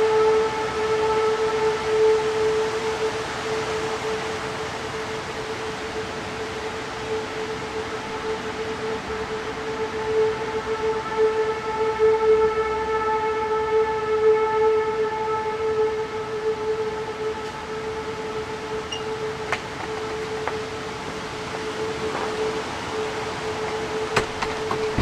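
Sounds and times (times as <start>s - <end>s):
warning siren steady tone: 0.0s - 25.0s.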